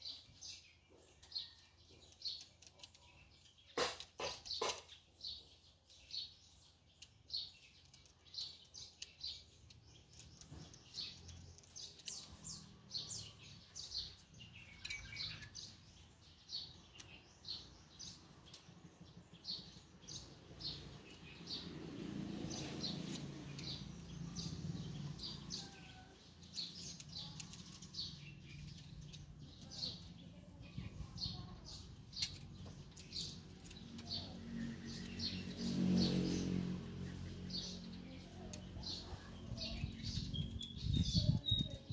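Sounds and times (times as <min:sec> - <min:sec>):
small bird chirping: 0:00.0 - 0:41.9.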